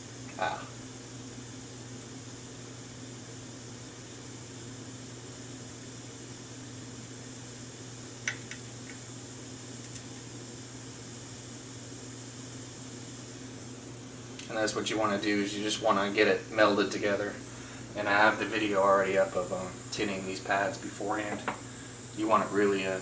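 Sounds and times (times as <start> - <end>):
gas soldering iron hissing: 0.0 - 23.0
steady low hum: 0.0 - 23.0.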